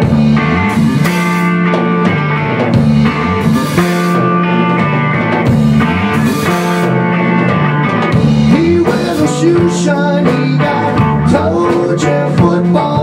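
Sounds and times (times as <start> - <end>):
drum kit with cymbals: 0.0 - 13.0
electric bass: 0.0 - 13.0
electric guitar: 0.0 - 13.0.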